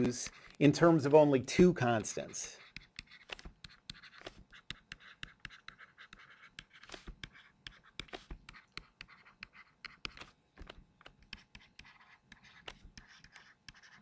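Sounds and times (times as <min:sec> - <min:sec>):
stylus tapping and scratching: 0:00.0 - 0:14.0.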